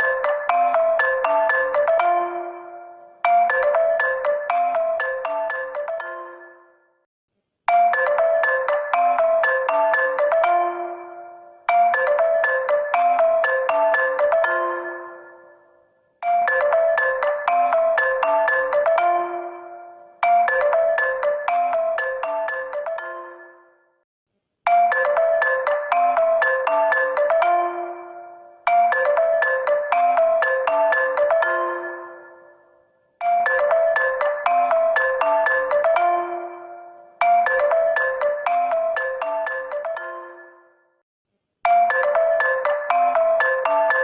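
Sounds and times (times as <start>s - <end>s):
phone ringtone melody: 0.0s - 7.1s, 7.7s - 24.0s, 24.7s - 41.0s, 41.6s - 44.0s.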